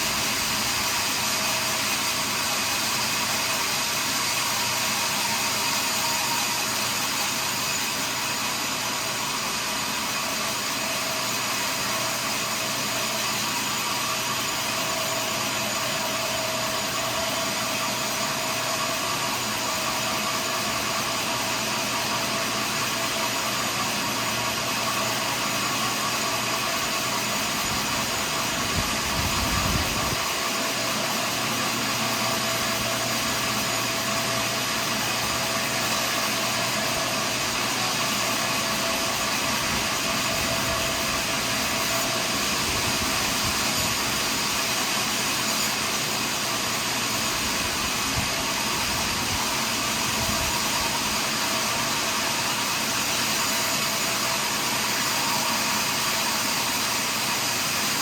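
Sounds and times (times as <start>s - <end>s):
sawmill sawing log: 0.0s - 58.0s.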